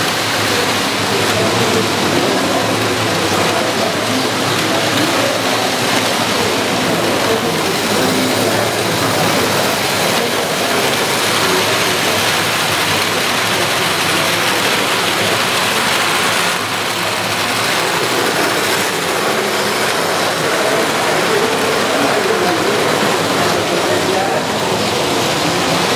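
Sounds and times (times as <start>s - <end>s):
model trains whirring on track: 0.0s - 25.9s.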